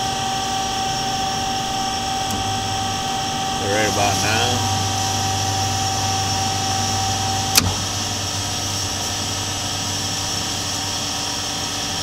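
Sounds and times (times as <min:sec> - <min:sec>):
bandsaw machine hum: 0:00.0 - 0:12.0
conveyor whine: 0:00.0 - 0:12.0.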